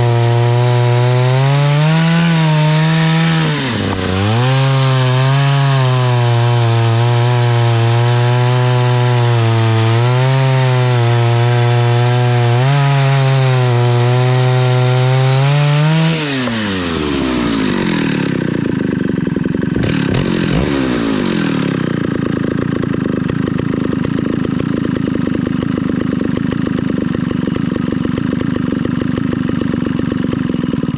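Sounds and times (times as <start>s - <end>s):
chainsaw cutting wood: 0.0s - 30.9s
chainsaw idling roughly: 0.0s - 30.9s.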